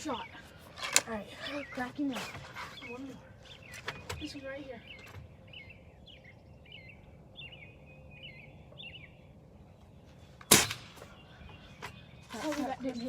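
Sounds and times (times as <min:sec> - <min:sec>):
faint low outdoor rumble: 0:00.0 - 0:13.0
small bird chirping: 0:00.0 - 0:13.0.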